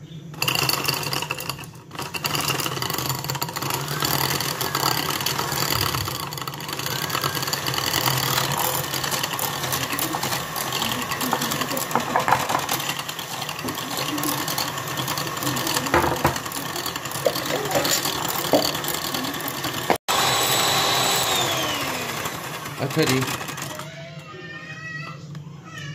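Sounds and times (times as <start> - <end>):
electric mixer motor whirring: 0.0 - 24.3.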